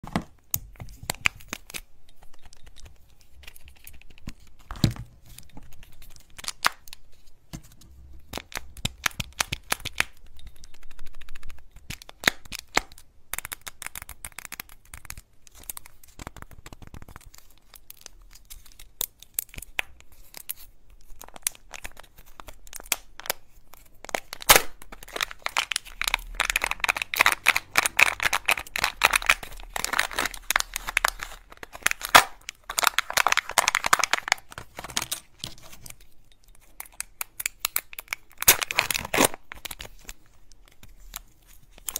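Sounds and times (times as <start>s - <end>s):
foil wrapper crinkling and tearing: 1.0s - 7.2s, 8.3s - 41.9s.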